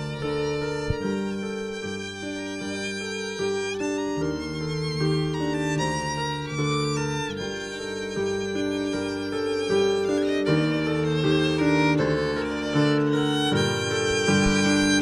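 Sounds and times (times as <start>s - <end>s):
violin melody: 0.0s - 15.0s.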